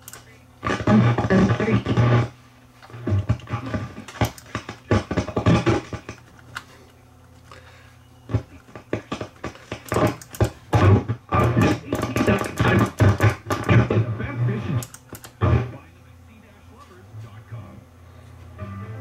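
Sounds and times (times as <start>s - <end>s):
crackling speaker audio: 0.0s - 19.0s
steady low hum: 0.0s - 19.0s.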